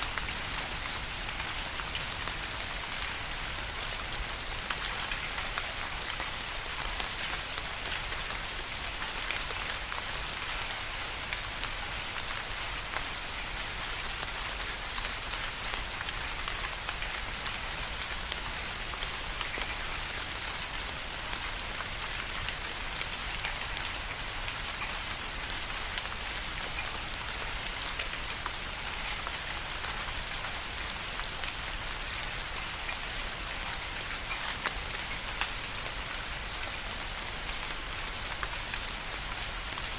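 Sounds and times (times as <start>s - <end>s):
steady rain hiss: 0.0s - 39.9s
raindrops clicking on a surface: 0.1s - 39.9s.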